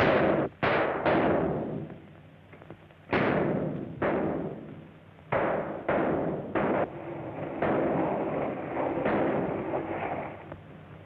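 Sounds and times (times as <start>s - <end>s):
echoing gunshots: 0.0s - 2.1s, 3.1s - 10.3s.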